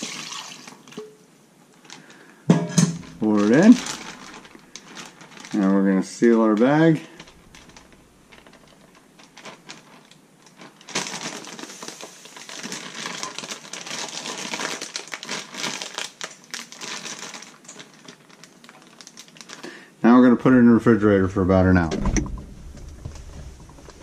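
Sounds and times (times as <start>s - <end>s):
plastic crinkling: 1.8s - 19.8s, 22.4s - 24.0s.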